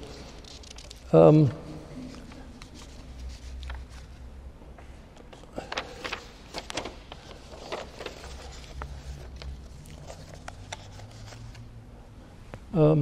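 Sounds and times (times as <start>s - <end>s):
paper rustling: 0.0s - 4.3s, 5.2s - 11.7s.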